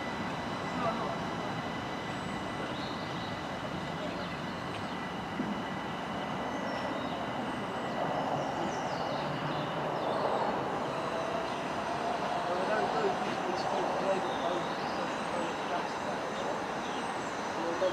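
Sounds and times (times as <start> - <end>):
electric train rumble: 0.0 - 17.9
thin high whine: 0.0 - 17.9.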